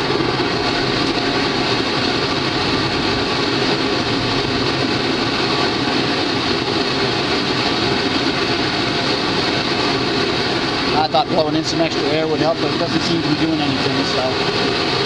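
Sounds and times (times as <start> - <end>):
gas burners rushing hiss: 0.0 - 15.0.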